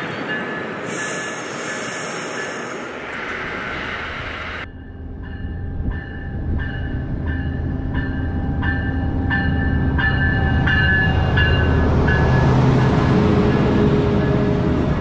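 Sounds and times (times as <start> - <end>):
locomotive bell ringing: 0.0 - 3.4, 4.6 - 15.0
locomotive rumble passing: 2.8 - 15.0.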